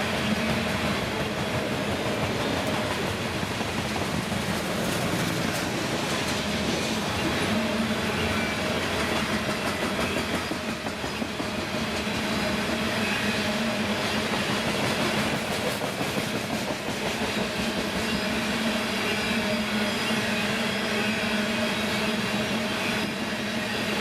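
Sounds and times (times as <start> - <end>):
freight train wheels clicking: 0.0 - 19.7
low train hum: 0.0 - 24.0.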